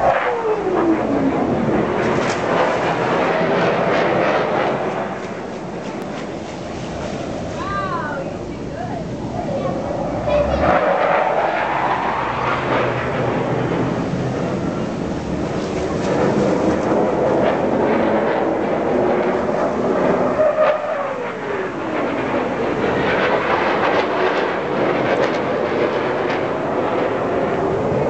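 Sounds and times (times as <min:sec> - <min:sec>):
jet noise rushing: 0:00.0 - 0:28.0
jet passing falling tone: 0:00.0 - 0:28.0.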